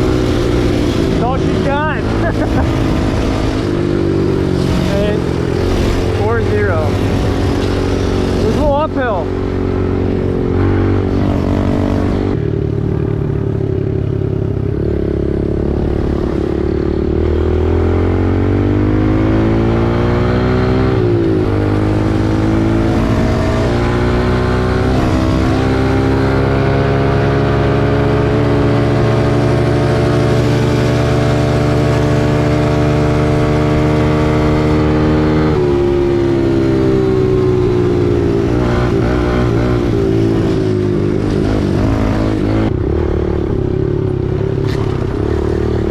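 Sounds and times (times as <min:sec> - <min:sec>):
dirt bike engine accelerating: 0:00.0 - 0:45.9.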